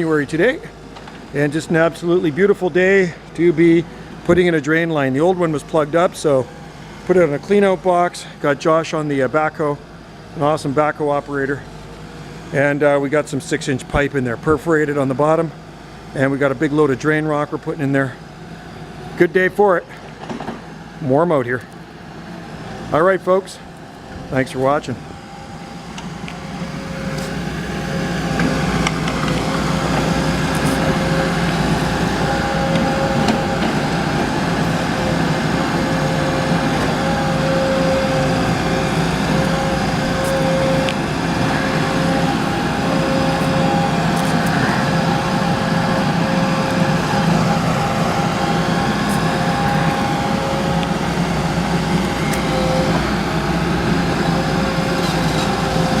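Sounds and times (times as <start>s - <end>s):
diesel engine running hard: 0.0s - 56.0s
steady whine: 0.0s - 56.0s.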